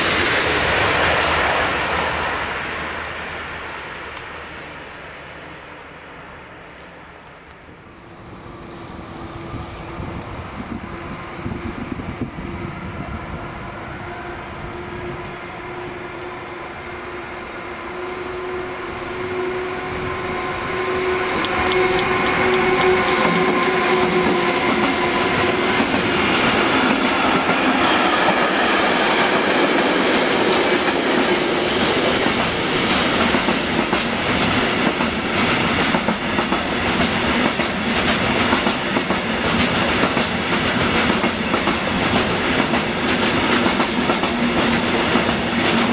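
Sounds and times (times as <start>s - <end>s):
freight train passing: 0.0s - 45.9s.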